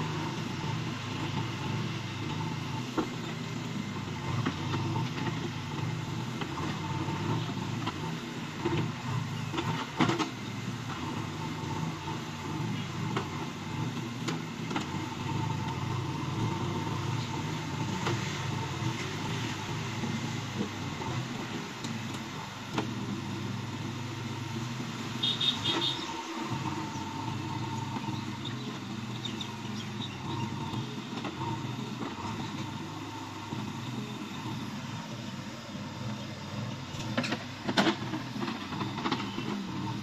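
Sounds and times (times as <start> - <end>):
backhoe digging and dumping mud: 0.0 - 40.0
diesel engine running: 0.0 - 40.0.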